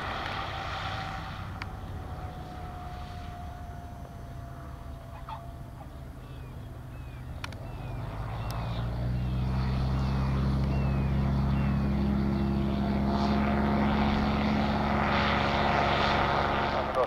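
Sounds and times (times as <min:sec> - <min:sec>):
propeller engine at full power: 0:00.0 - 0:17.0.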